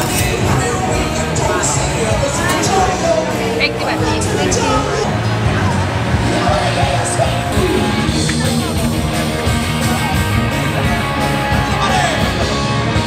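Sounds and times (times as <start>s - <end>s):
band music playing: 0.0s - 13.0s.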